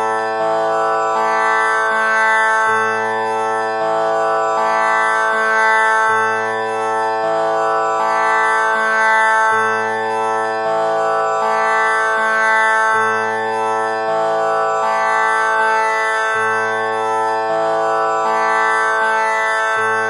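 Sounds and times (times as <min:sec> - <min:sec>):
tanpura drone plucked strings: 0:00.0 - 0:20.0.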